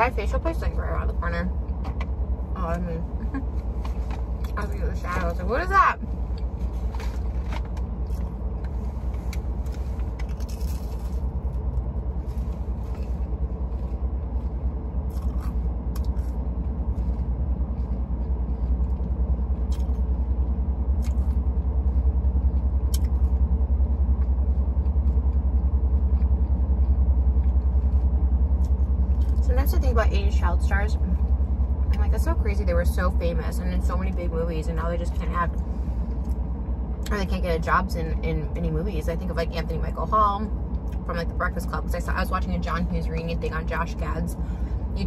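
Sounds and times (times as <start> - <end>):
car engine idling rumble: 0.0 - 45.0.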